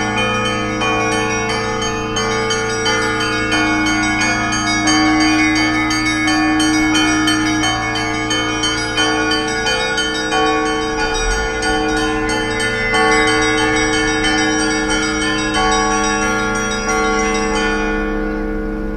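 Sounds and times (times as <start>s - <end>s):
small bells pattering: 0.0s - 18.5s
large bells ringing: 0.0s - 18.9s.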